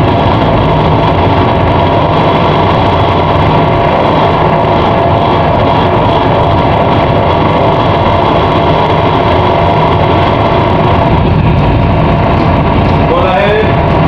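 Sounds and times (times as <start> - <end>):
ship engines droning: 0.0 - 14.0
steady machine tones: 0.0 - 14.0.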